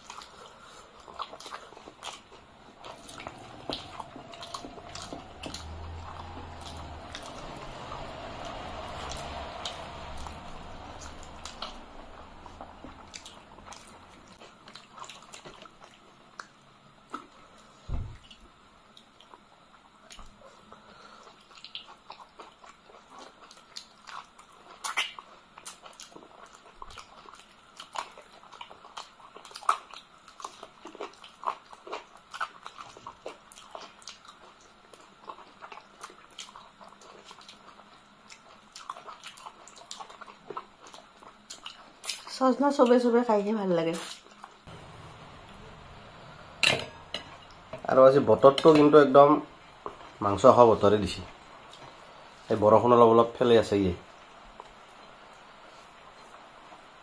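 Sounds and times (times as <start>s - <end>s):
people chewing food: 0.0s - 43.3s, 43.9s - 52.7s, 54.0s - 57.0s.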